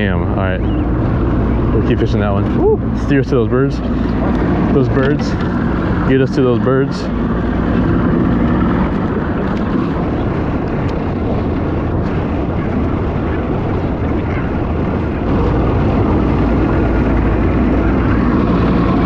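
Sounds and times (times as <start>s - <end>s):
boat engine running: 0.0s - 19.0s
water noise: 0.0s - 19.0s
wind noise: 0.0s - 19.0s.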